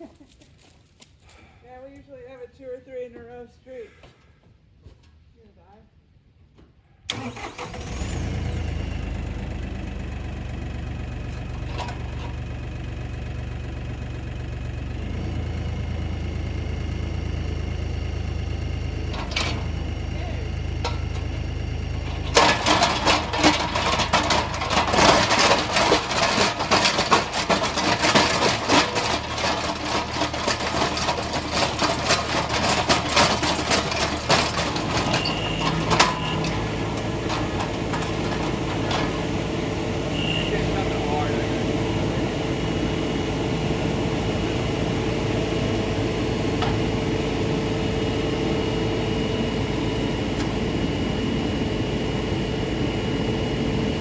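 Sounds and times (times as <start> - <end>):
dense rattling and crackling: 7.1 - 54.0
tractor engine running: 7.1 - 54.0.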